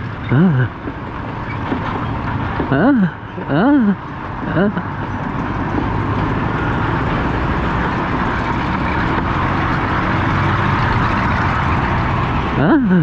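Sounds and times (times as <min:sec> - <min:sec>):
scooter engine drone: 0:00.0 - 0:13.0.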